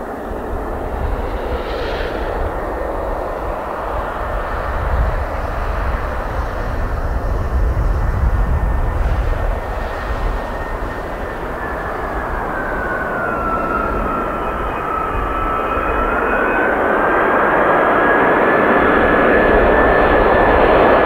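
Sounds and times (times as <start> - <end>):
jet engines roaring with high whine: 0.0 - 21.0.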